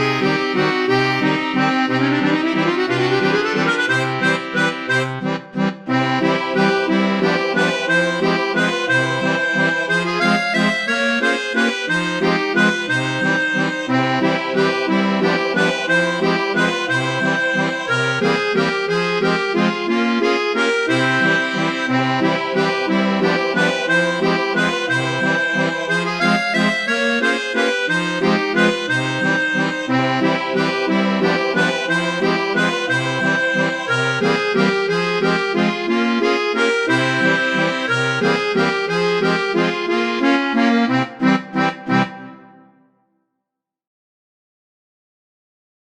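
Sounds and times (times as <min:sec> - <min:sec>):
accordion playing a waltz: 0:00.0 - 0:42.9.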